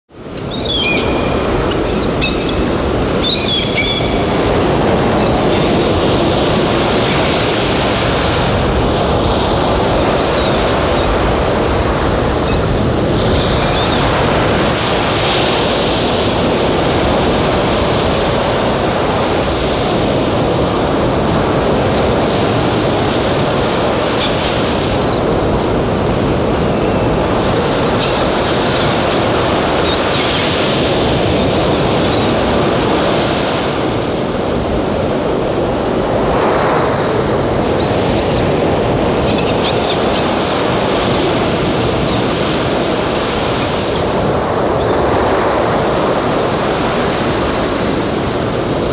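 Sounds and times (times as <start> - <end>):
sea waves washing: 0.1 - 48.9.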